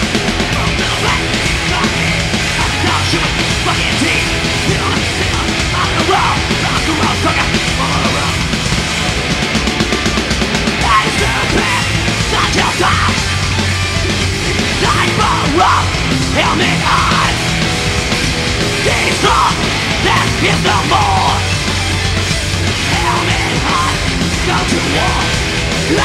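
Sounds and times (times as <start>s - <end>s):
bass: 0.0s - 26.0s
distorted electric guitars: 0.0s - 26.0s
drums: 0.0s - 26.0s.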